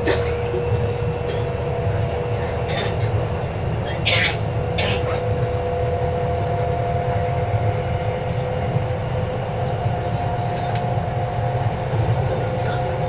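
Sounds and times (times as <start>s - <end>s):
steady humming tones: 0.0s - 13.0s
wheels rumbling on track: 0.0s - 13.0s.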